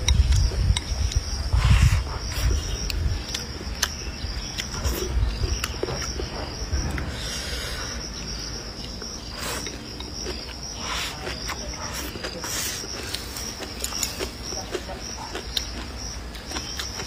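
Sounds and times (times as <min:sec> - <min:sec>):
person chewing: 0:00.0 - 0:07.9, 0:08.8 - 0:17.0
insects chirring: 0:00.0 - 0:17.0.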